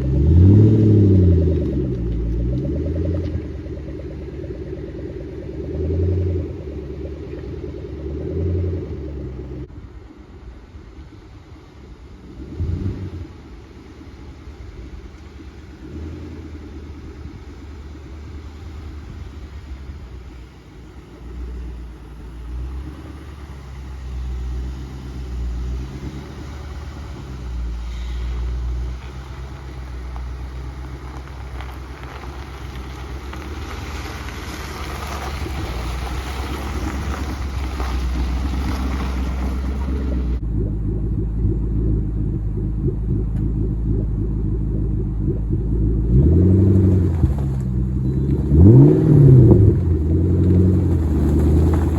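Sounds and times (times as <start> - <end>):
car engine running: 0.0 - 51.9
road noise: 0.0 - 51.9.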